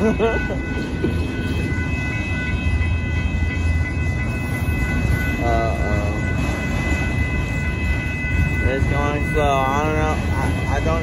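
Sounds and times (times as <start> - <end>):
train cars rumbling: 0.0 - 11.0.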